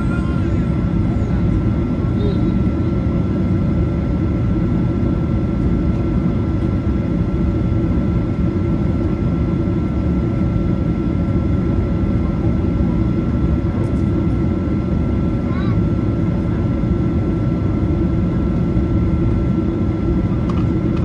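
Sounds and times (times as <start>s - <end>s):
aircraft cabin engine rumble: 0.0s - 21.0s
thin steady engine whine: 0.0s - 21.0s.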